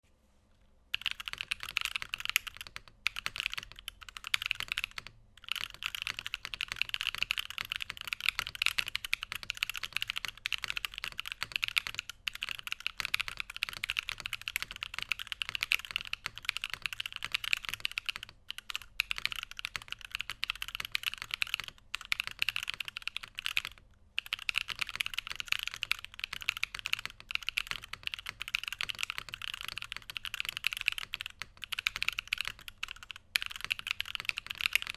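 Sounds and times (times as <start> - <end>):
fast typing on mechanical keyboard: 0.9 - 34.9.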